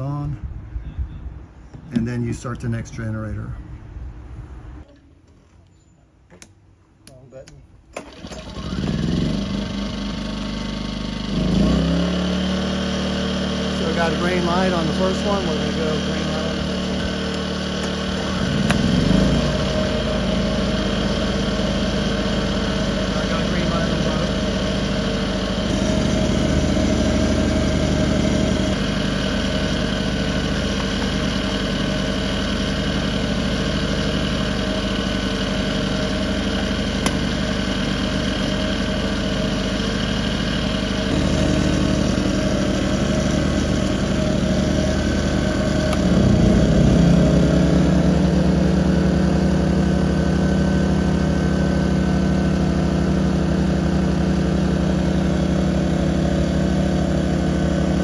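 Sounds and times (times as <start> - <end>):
generators running: 7.9 - 58.0.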